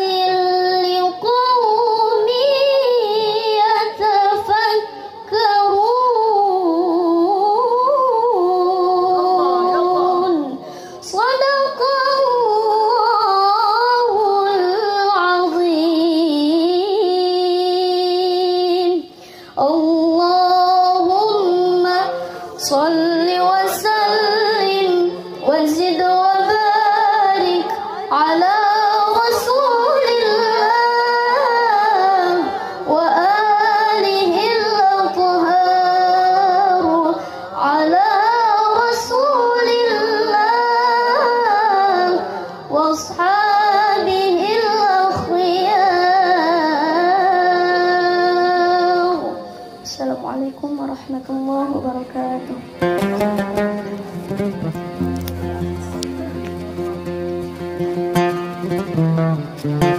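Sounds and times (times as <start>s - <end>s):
woman reciting melodically: 0.0s - 54.6s.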